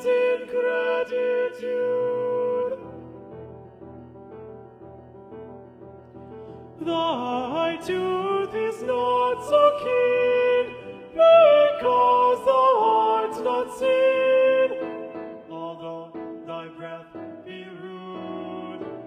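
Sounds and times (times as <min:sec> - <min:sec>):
solo voice singing held notes: 0:00.0 - 0:03.3, 0:06.8 - 0:19.0
soft musical accompaniment: 0:00.0 - 0:19.0.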